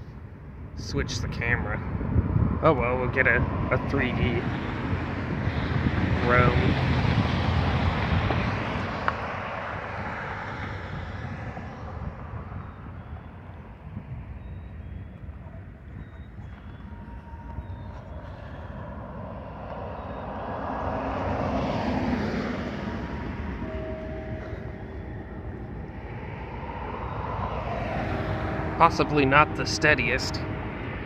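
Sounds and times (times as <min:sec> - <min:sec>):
road traffic: 0:00.0 - 0:31.0
wind rumbling on microphone: 0:00.0 - 0:31.0
car passing: 0:00.2 - 0:31.0.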